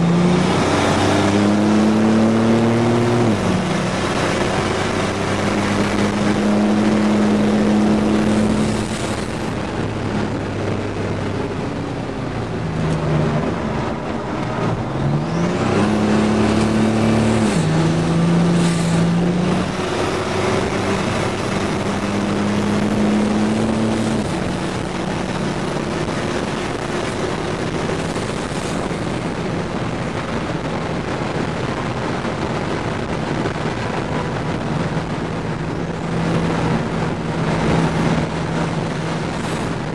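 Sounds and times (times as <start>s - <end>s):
truck engine accelerating: 0.0s - 39.9s
wind and road noise: 0.0s - 39.9s.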